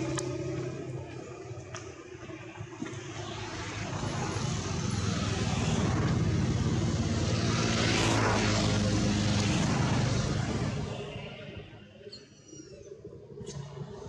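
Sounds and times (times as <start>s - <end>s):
motor engine passing by: 0.0s - 11.6s.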